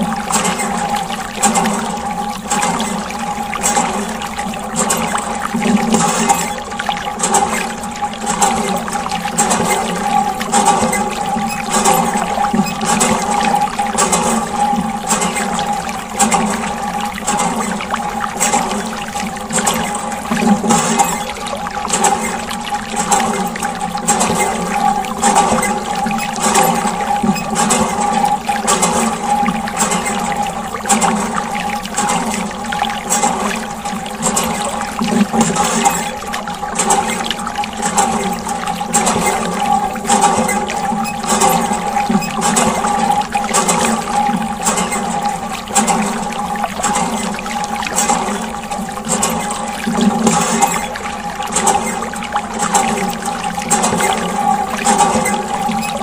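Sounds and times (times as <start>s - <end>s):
steady pump hum: 0.0s - 56.0s
water sloshing and splashing: 0.0s - 56.0s.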